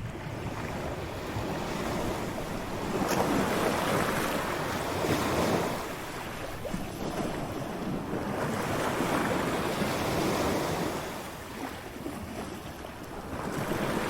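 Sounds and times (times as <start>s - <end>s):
ocean waves breaking on shore: 0.0s - 14.0s.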